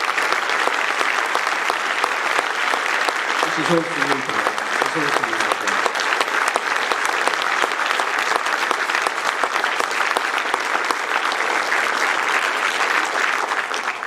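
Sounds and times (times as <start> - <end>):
large audience applauding: 0.0 - 14.0.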